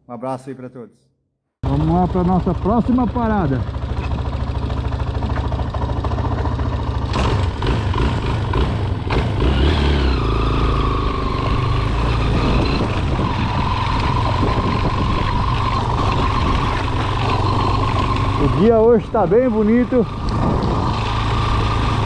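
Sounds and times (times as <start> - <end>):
motorcycle engine running: 1.6 - 22.0.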